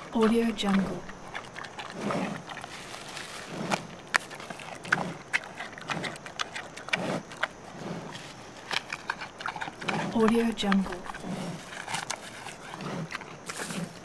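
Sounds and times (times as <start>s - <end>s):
panda chewing food: 0.0s - 14.0s.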